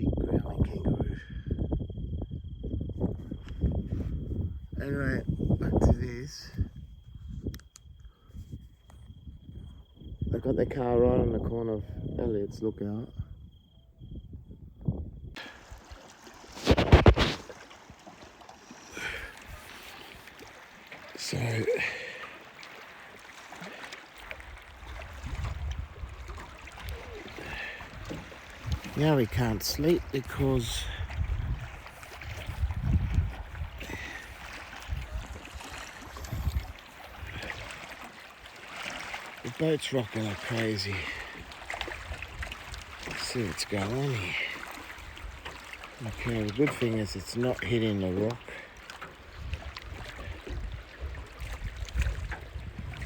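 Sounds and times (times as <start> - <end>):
wind buffeting microphone: 0.0 - 18.0, 24.2 - 38.0, 40.8 - 48.4, 49.2 - 53.0
water lapping against boat hull: 2.5 - 53.0.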